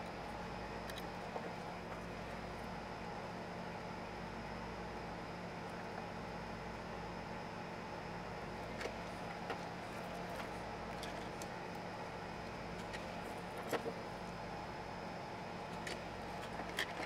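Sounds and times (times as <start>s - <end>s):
workshop hum and hiss: 0.0s - 17.0s.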